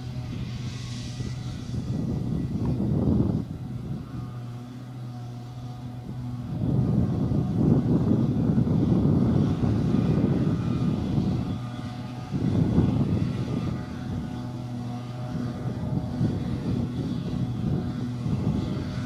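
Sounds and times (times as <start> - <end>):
farm machinery engines droning: 0.0 - 19.0
steady engine hum: 0.0 - 19.0.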